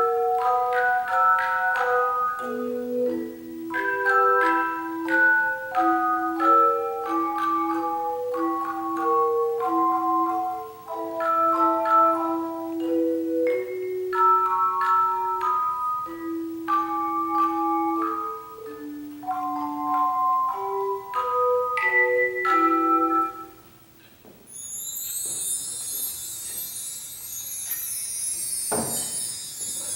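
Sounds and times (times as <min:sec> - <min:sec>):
tone chimes playing a melody: 0:00.0 - 0:23.6, 0:24.5 - 0:29.9.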